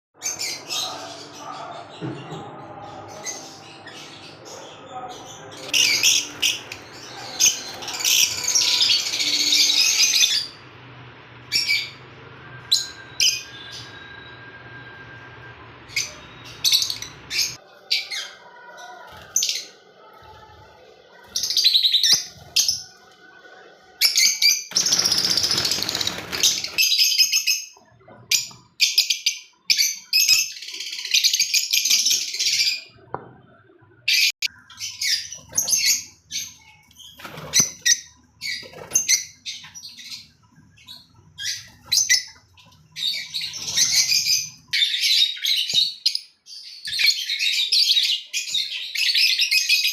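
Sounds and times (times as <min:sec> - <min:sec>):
lovebirds chirping: 0:00.2 - 0:49.9.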